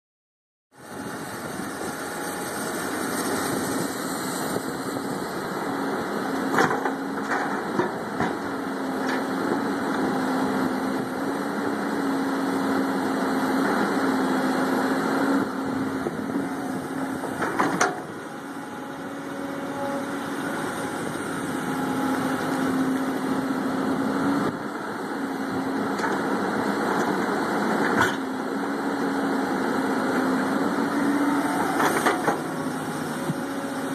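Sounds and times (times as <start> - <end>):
excavator diesel engine running: 0.8 - 33.9.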